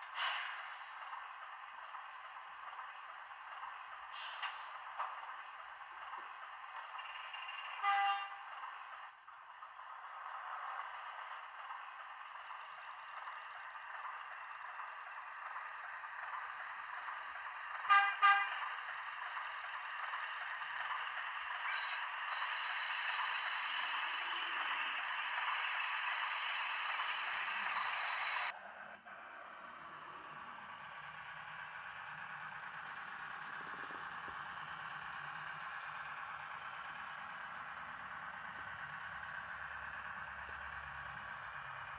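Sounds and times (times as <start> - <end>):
diesel engine sound from speaker: 0.0 - 41.9.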